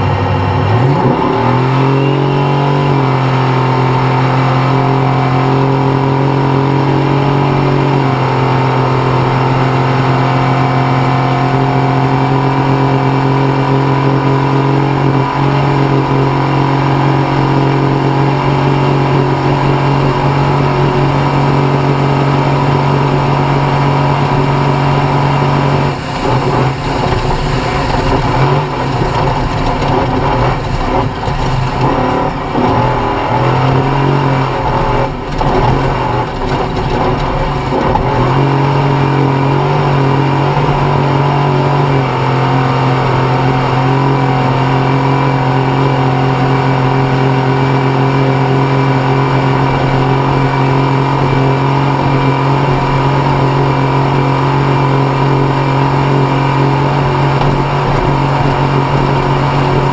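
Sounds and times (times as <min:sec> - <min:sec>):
race vehicle engine revving: 0:00.0 - 0:59.9.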